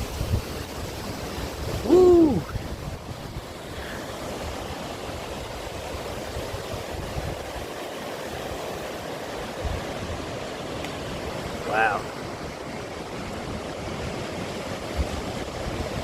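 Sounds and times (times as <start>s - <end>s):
wind buffeting microphone: 0.0s - 11.6s, 12.2s - 16.0s
wind rushing through trees: 0.0s - 16.0s.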